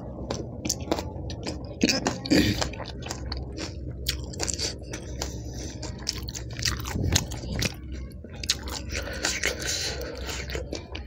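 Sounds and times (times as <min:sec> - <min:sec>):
wet crunchy chewing: 0:00.0 - 0:11.0.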